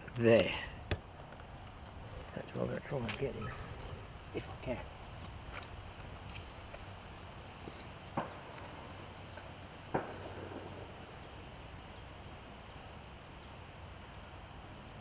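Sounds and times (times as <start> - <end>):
bird chirping: 0.0 - 15.0
outdoor background hiss: 0.0 - 15.0.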